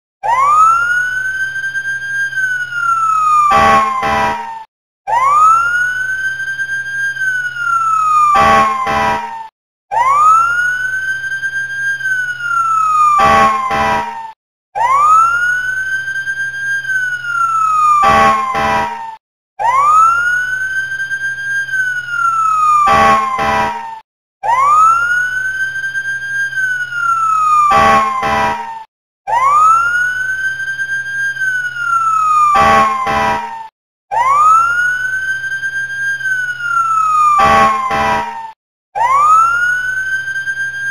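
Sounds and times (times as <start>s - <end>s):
fire engine siren wail: 0.2s - 40.9s.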